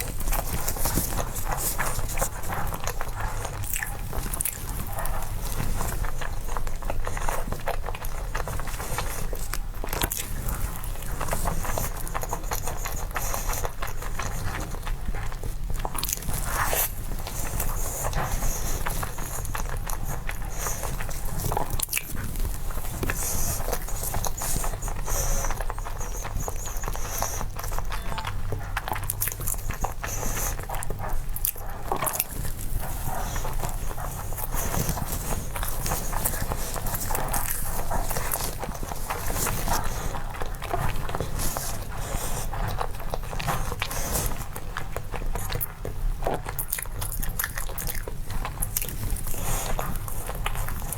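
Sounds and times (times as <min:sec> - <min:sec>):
close chewing of crunchy snack: 0:00.0 - 0:50.9.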